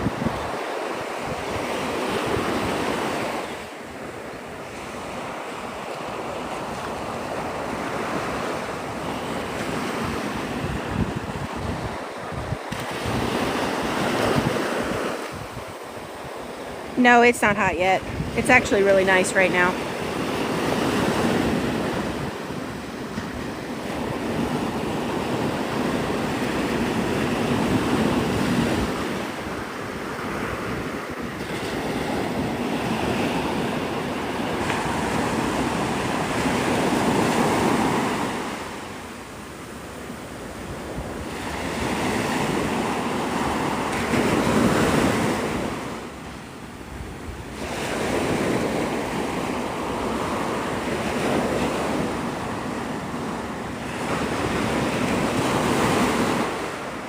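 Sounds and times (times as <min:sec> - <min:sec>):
surf washing onto sandy beach: 0:00.0 - 0:57.0
wind on microphone: 0:00.0 - 0:57.0.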